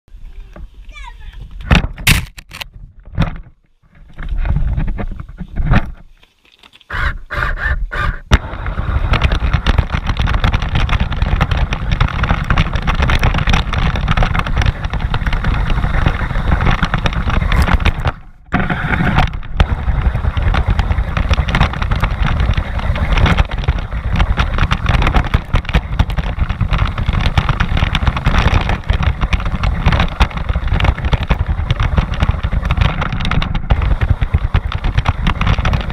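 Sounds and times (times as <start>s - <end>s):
rc car tyres rumbling on asphalt: 0.1s - 6.2s, 6.8s - 35.9s.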